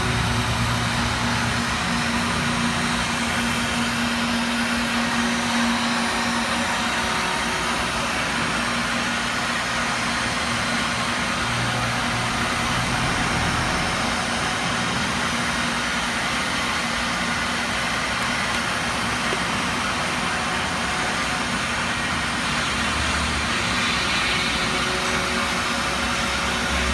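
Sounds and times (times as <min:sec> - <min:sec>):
machine whirring: 0:00.0 - 0:26.9.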